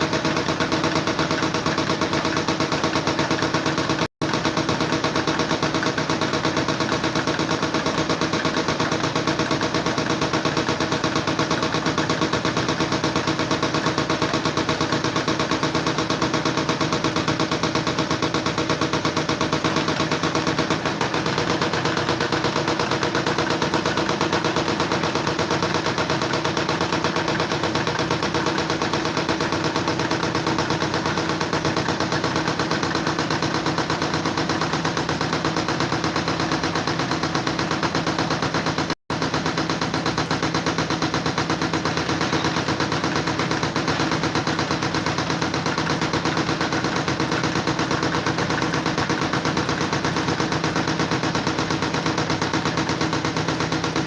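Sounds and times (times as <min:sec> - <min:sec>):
rapid mechanical rattle: 0:00.0 - 0:54.0.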